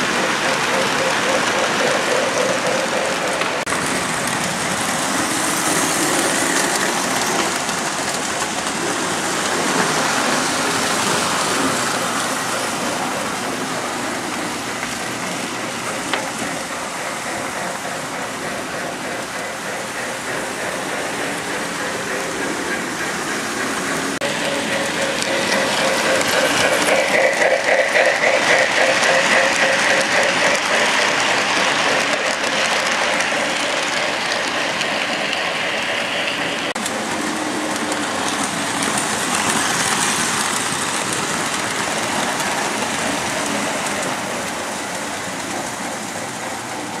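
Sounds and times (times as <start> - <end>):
model train wheels clattering on rails: 0.0 - 47.0.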